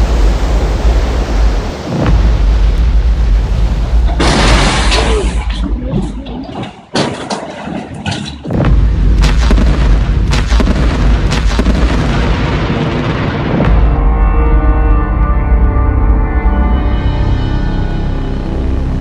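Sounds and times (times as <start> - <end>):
deep rumbling with booms and cracks: 0.0 - 16.5.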